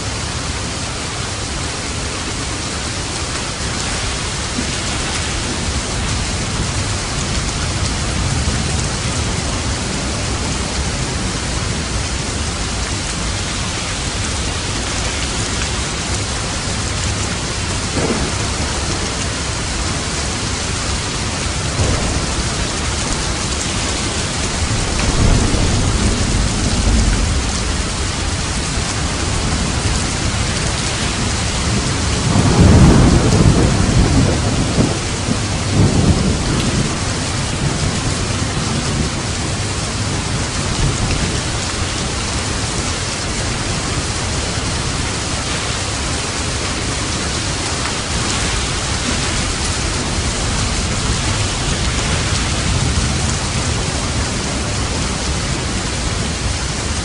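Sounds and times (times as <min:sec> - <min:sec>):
rain on a roof: 0:00.0 - 0:57.0
thunder rumbling: 0:01.8 - 0:57.0.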